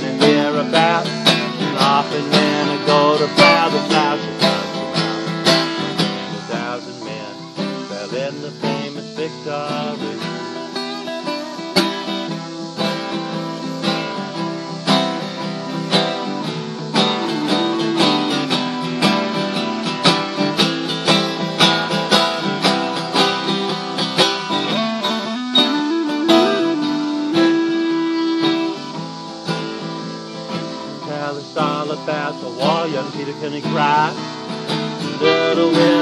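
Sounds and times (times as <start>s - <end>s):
clarinet melody: 0.0s - 6.8s, 8.1s - 36.0s
acoustic guitars strumming: 0.0s - 36.0s.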